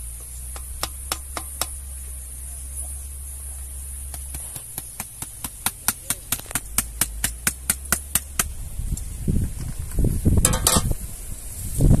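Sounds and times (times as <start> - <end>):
low rumbling handling noise: 0.0 - 12.0.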